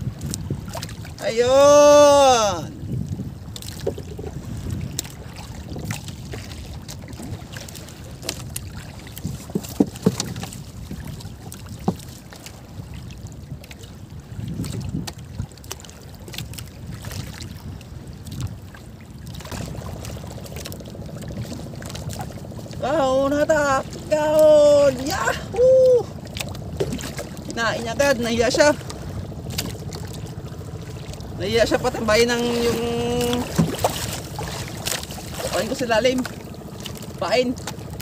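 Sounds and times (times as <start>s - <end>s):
water lapping against hull: 0.0s - 38.0s
wind buffeting microphone: 0.0s - 38.0s.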